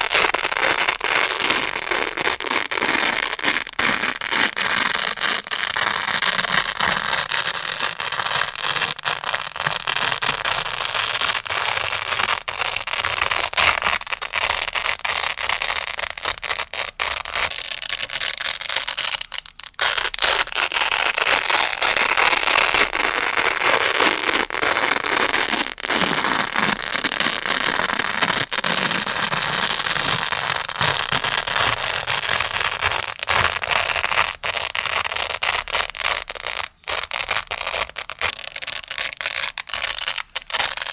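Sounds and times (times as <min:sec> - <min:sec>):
velcro crunchy crackle: 0:00.0 - 0:40.9.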